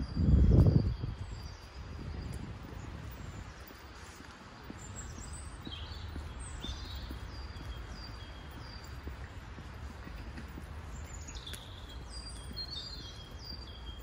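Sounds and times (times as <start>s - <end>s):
faint footsteps on pavement: 0.0s - 14.0s
small birds chirping: 0.0s - 14.0s.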